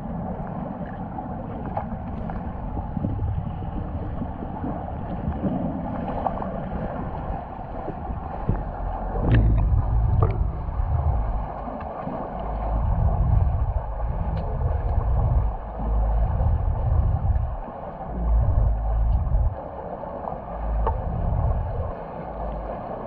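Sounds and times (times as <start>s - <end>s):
muffled underwater water rush: 0.0s - 23.0s.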